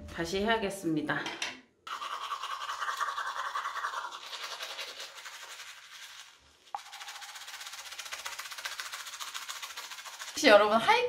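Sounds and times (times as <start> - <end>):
toothbrush scrubbing teeth: 1.9 - 10.8.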